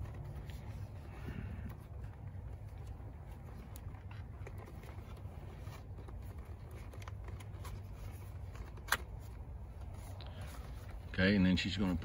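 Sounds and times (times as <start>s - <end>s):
leather strap clicks and rustles: 0.0s - 12.0s
low steady rumble: 0.0s - 12.0s.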